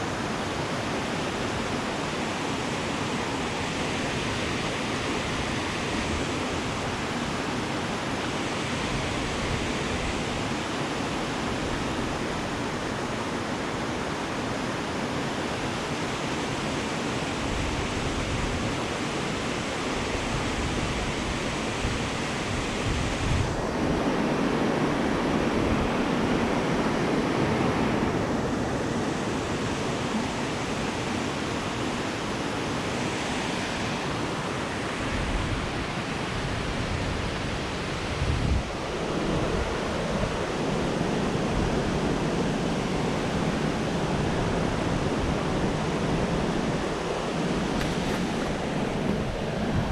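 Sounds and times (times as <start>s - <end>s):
river in flood rushing: 0.0s - 49.9s.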